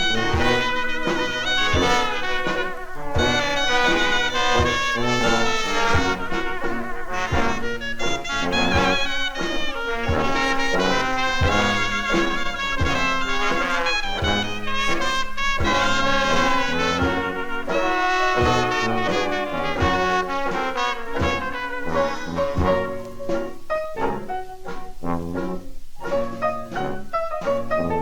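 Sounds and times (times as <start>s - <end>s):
rhythm section beat: 0.0s - 28.0s
trombone: 0.0s - 28.0s
trumpet: 0.0s - 28.0s.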